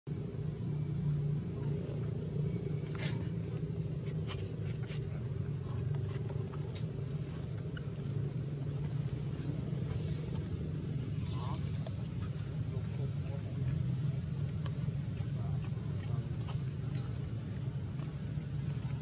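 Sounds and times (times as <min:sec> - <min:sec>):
low mechanical hum: 0:00.1 - 0:19.0.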